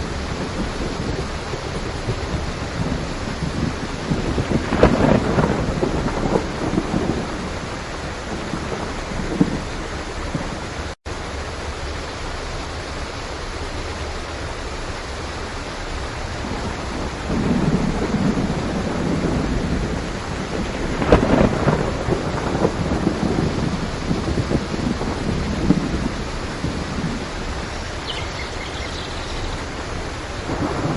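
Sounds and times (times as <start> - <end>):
rolling thunder: 0.0 - 11.0, 16.2 - 30.9
heavy rain: 0.0 - 30.9.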